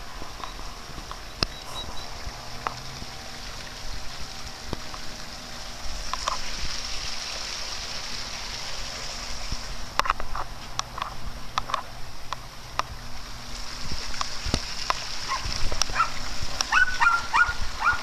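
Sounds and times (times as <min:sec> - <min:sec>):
water running over rocks: 0:00.0 - 0:18.0.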